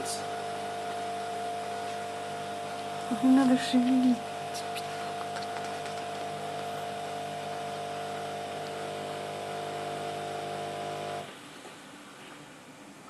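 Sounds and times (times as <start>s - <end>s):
coffee machine pump humming: 0.0s - 11.4s.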